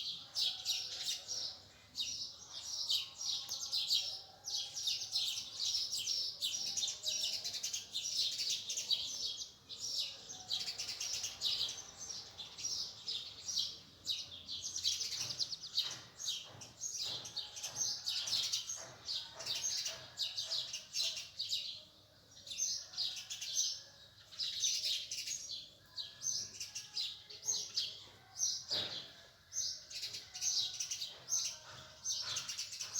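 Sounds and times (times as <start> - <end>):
small birds chirping chorus: 0.0 - 32.9.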